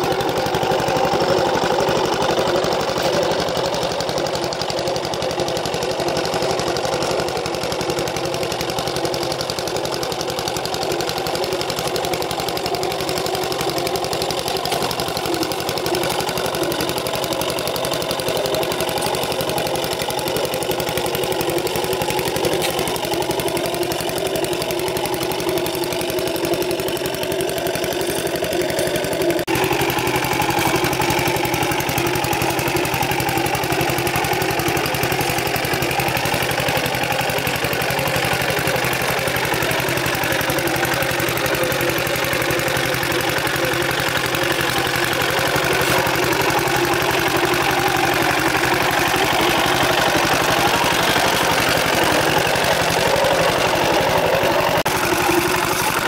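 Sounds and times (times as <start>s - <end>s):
farm machine engine chugging: 0.0s - 56.0s.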